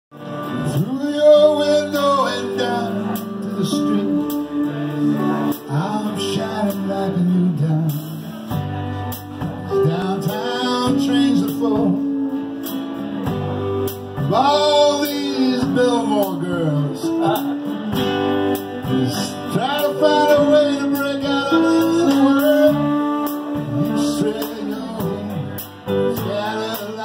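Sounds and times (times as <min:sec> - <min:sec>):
rock band playing: 0:00.1 - 0:27.0
man singing lead vocal: 0:00.2 - 0:27.0.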